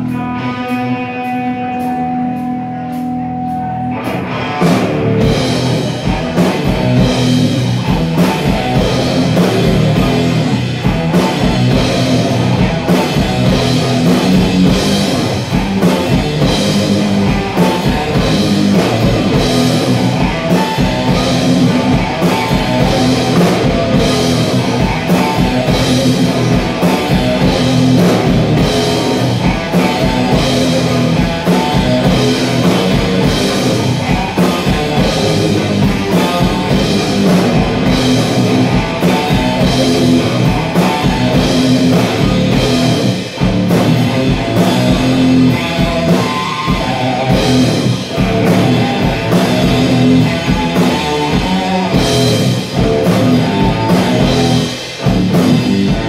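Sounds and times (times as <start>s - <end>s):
drum kit beat: 0.0s - 56.0s
electric guitar riff: 0.0s - 56.0s.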